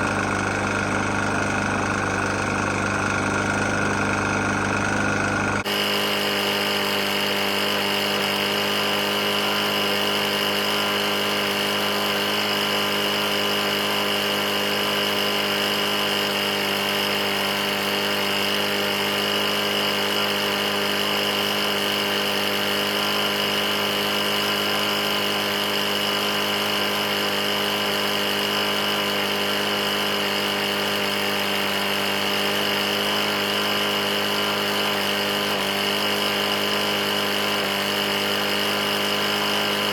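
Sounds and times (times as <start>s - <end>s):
lawn mower engine knocking: 0.0s - 39.9s.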